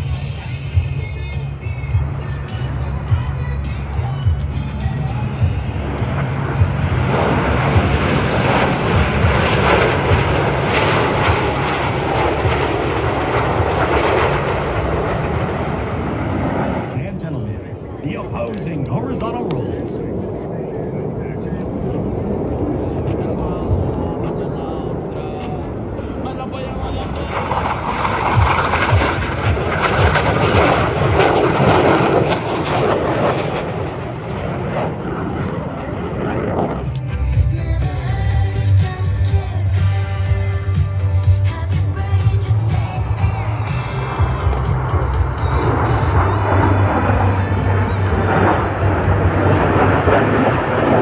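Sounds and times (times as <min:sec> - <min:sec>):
fighter jet engines roaring: 0:00.0 - 0:51.0.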